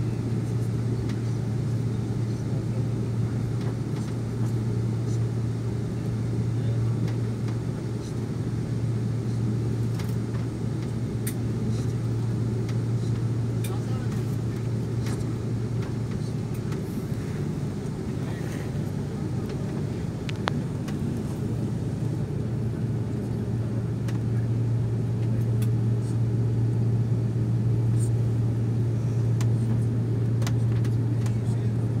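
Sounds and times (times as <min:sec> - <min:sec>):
jet engines humming: 0:00.0 - 0:32.0.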